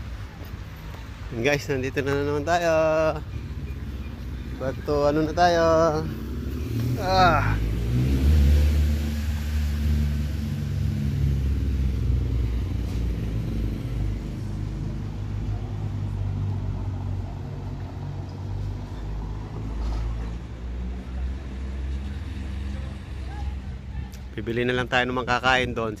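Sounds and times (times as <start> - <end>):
road traffic rumble: 0.0 - 26.0
vehicle engines idling: 0.0 - 26.0.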